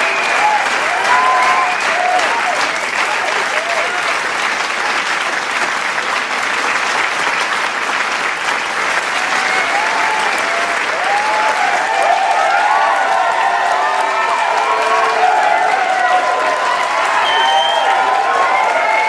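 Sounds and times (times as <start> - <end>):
crowd cheering: 0.0 - 19.0
large crowd applauding: 0.0 - 19.0.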